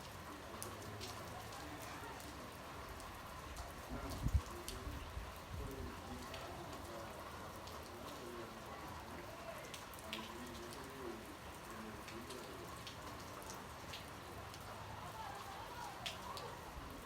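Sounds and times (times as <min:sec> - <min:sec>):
drops ticking and splashing: 0:00.0 - 0:17.0
rain falling: 0:00.0 - 0:17.0.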